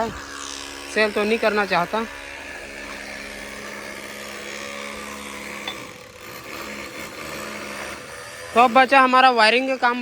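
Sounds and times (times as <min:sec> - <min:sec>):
small motor humming: 0:00.0 - 0:10.0.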